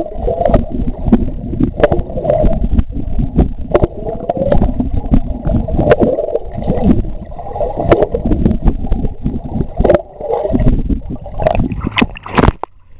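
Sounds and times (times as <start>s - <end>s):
underwater churning water and bubbles: 0.0s - 12.9s.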